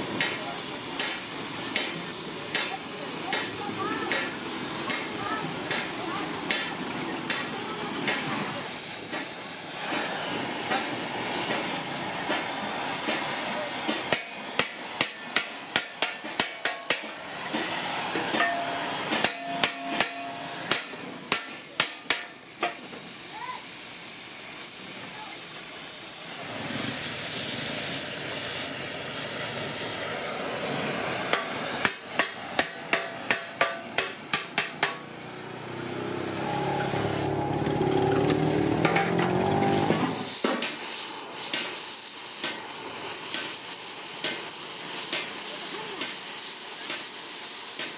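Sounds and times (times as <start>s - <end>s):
gas torch hissing: 0.0s - 37.7s, 39.4s - 47.9s.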